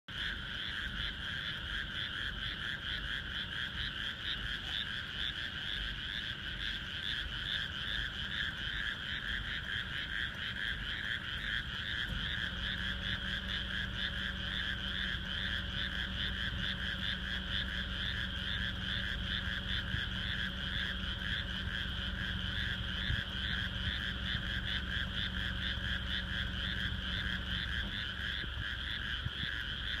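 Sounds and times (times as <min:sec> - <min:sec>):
frogs trilling in chorus: 0:00.1 - 0:30.0
low steady hum: 0:00.1 - 0:30.0.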